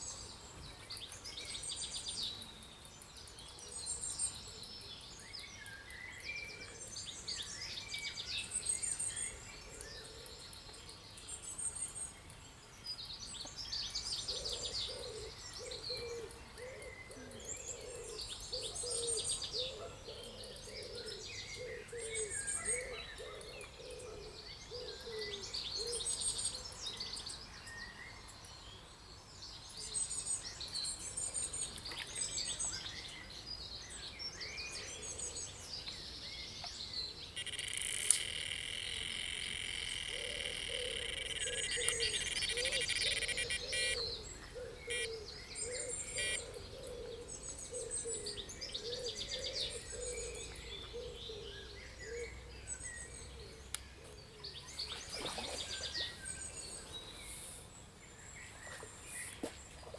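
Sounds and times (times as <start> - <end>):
birds singing and calling: 0.0 - 59.9.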